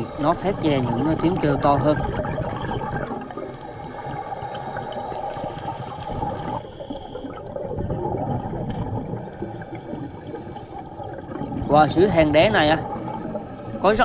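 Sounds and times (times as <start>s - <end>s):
exhaled air bubbling underwater: 0.0s - 14.0s.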